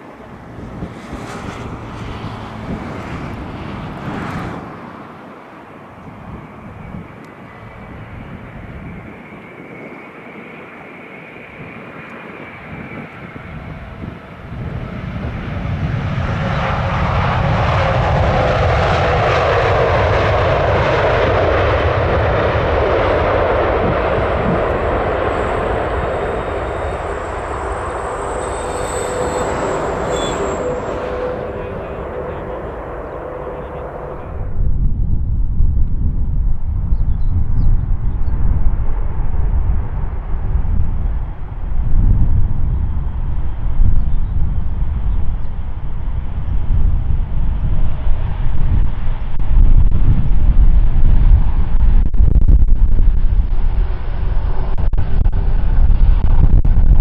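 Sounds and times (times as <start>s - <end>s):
jet engines passing: 0.0s - 57.0s.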